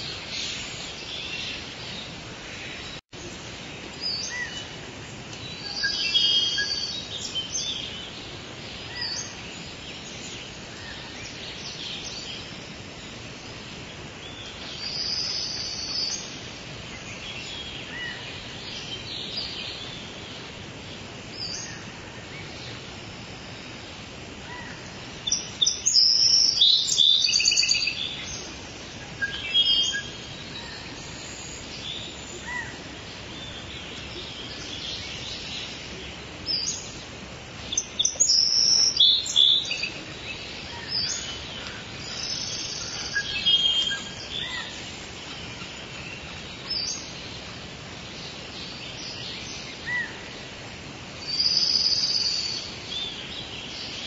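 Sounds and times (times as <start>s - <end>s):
birds chirping and trilling: 0.0s - 54.0s
forest ambience hiss: 0.0s - 54.0s.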